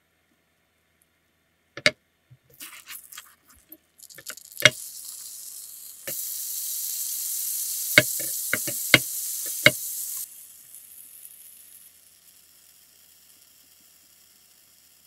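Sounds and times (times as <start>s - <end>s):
toast sizzling in butter: 2.5s - 15.0s.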